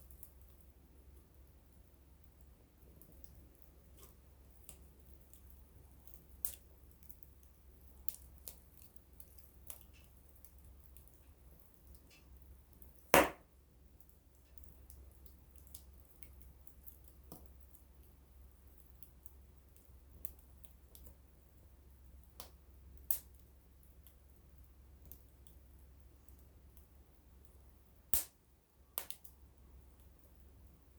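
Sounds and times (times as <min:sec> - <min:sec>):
campfire crackling and popping: 0:00.0 - 0:30.4.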